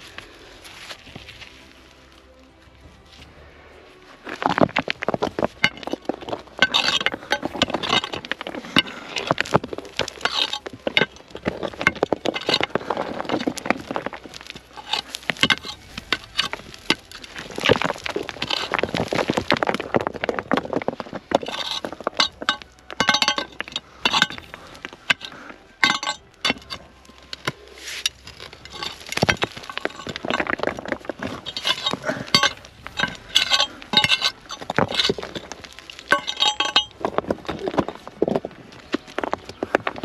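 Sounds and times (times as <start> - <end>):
soil scraping and crumbling: 0.0 - 40.0.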